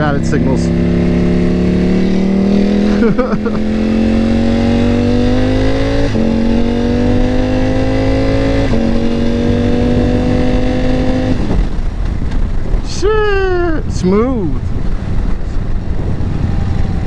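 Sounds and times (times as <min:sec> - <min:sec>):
motorcycle engine accelerating: 0:00.0 - 0:12.9, 0:14.6 - 0:17.0
wind rush: 0:00.0 - 0:17.0.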